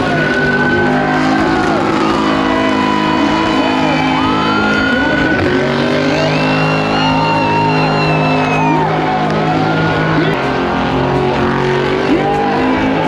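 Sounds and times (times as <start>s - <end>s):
car engine revving high: 0.0s - 13.0s.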